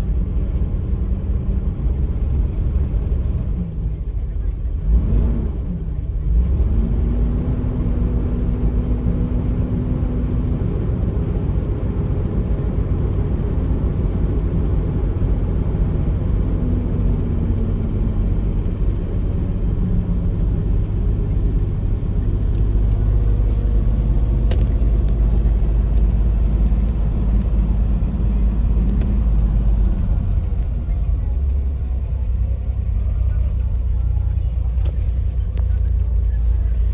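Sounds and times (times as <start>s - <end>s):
car engine idling from inside cabin: 0.0s - 36.9s.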